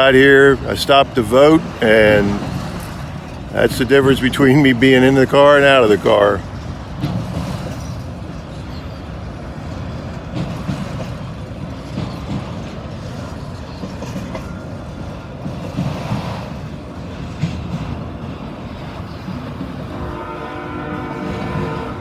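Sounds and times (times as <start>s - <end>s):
train cars clanking: 0.0s - 22.0s
train wheels rumbling on rail: 0.0s - 22.0s.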